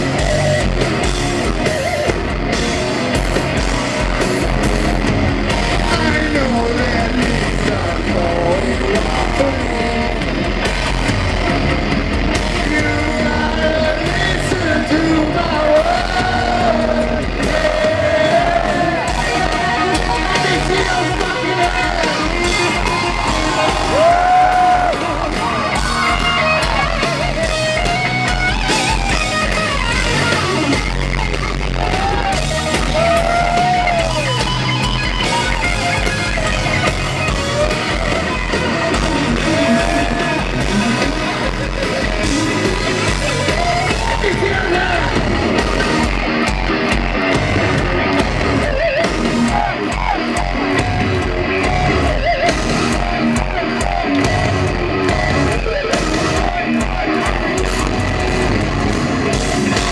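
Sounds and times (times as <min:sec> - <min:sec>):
electric guitar lead lines: 0:00.0 - 0:59.9
heavy metal band playing: 0:00.0 - 0:59.9.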